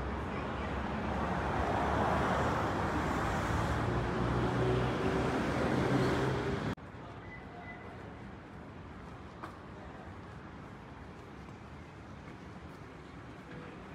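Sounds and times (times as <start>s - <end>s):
street traffic: 0.0s - 13.9s.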